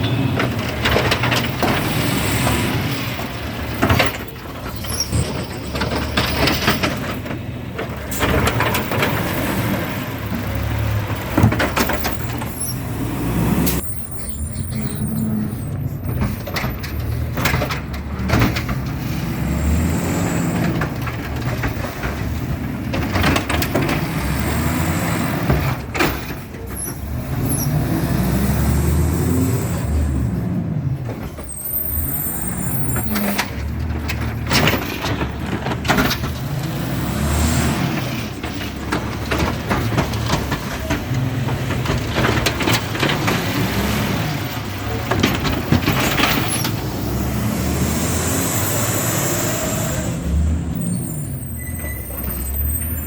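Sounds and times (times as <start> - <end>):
knocks and clanks: 0.0 - 13.8, 14.8 - 50.7
garbage truck engine revving: 0.0 - 53.0.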